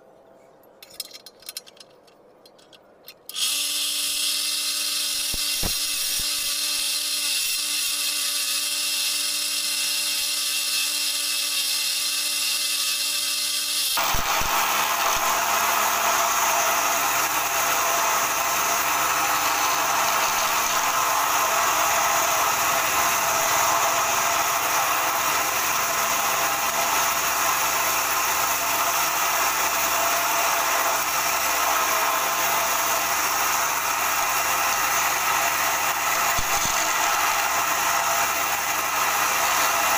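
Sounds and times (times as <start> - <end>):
wood lathe whirring: 3.3 - 39.9
chisel cutting spinning wood: 3.4 - 39.9.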